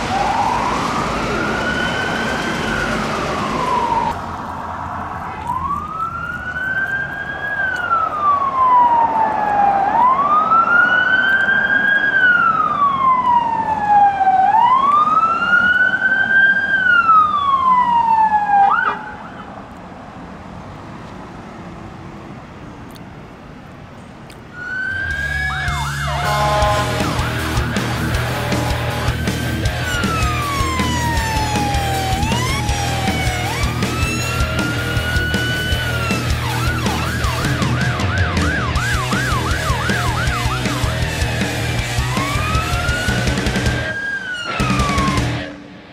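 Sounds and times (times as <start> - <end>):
fast-changing siren tones: 0.0 - 4.2, 5.2 - 19.5, 24.5 - 45.7
police siren wailing: 0.0 - 19.6, 24.5 - 45.7
traffic noise: 0.0 - 45.9.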